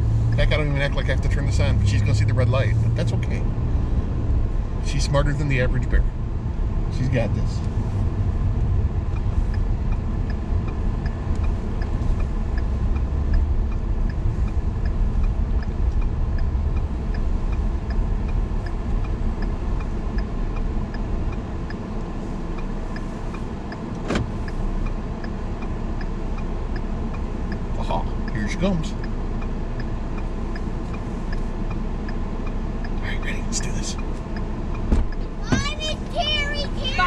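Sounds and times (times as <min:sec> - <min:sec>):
car road and engine rumble: 0:00.0 - 0:37.0
turn signal ticking: 0:00.0 - 0:37.0.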